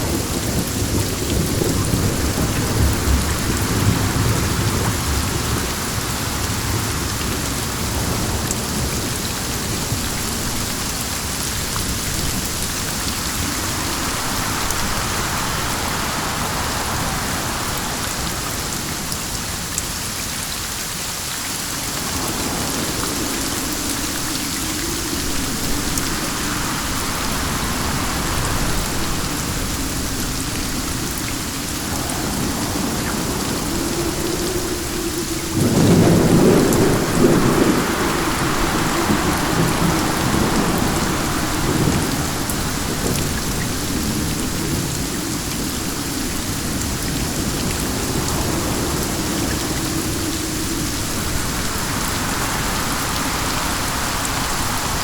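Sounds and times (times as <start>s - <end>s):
low thunder rumble: 0.0s - 19.2s, 22.0s - 55.0s
dense rainfall: 0.0s - 55.0s
wind: 0.0s - 55.0s.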